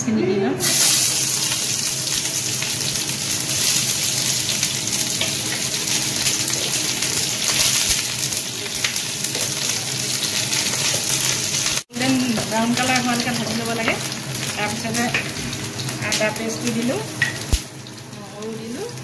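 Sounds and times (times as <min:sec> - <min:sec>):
onion sizzling in hot oil: 0:00.6 - 0:19.0.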